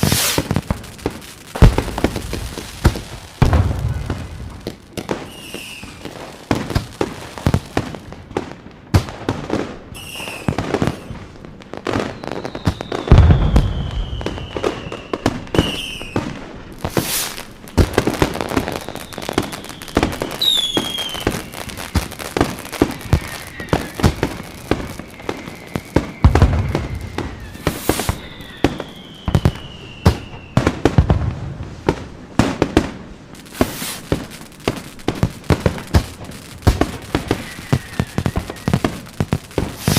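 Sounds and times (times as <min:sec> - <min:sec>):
whistling rockets: 0:00.0 - 0:08.0, 0:09.0 - 0:31.9, 0:33.4 - 0:39.9
fireworks bangs and crackles: 0:00.0 - 0:39.9.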